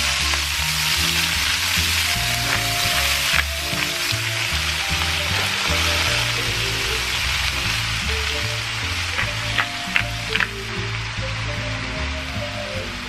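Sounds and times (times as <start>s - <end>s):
sharp crackles: 0.0s - 11.3s
cabbage sizzling in pan: 0.0s - 13.0s.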